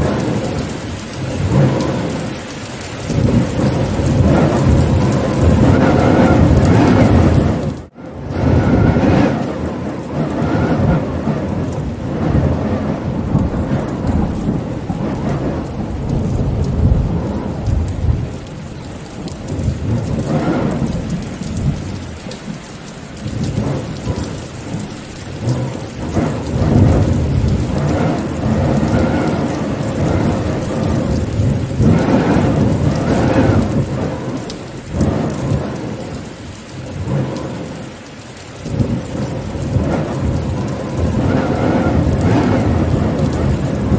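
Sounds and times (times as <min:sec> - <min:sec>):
low rolling rumbles: 0:00.0 - 0:43.9
steady rain falling: 0:00.0 - 0:43.9.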